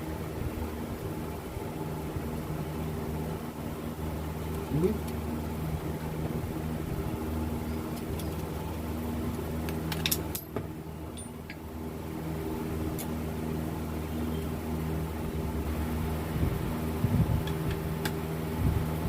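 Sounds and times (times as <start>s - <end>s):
steady machine hum: 0.0s - 19.0s.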